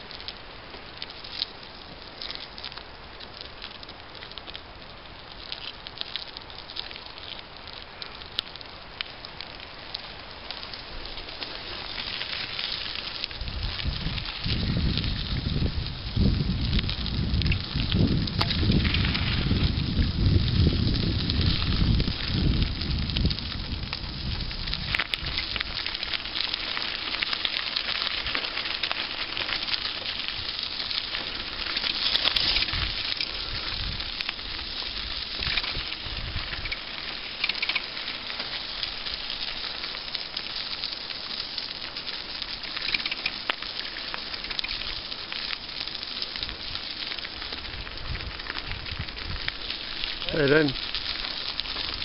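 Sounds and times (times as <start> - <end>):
bicycle tyres crunching on gravel: 0.0 - 52.0
wind rumbling on microphone: 0.0 - 52.0.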